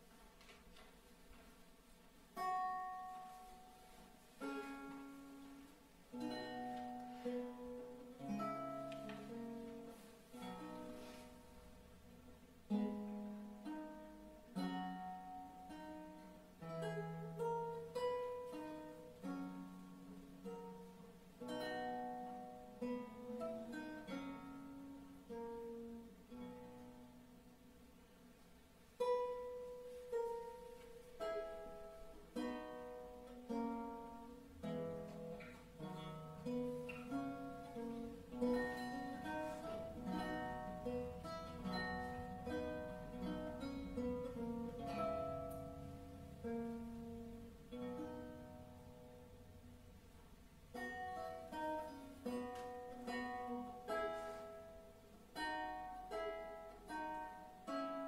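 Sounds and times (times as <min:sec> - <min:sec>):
lute playing slow piece: 0:00.0 - 0:58.0.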